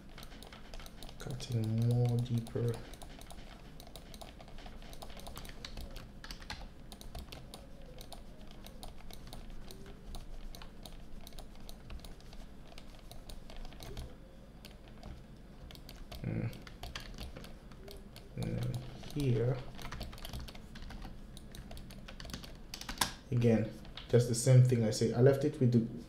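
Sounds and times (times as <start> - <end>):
keyboard and mouse clicking: 0.0 - 23.2
faint low hum: 0.0 - 26.0.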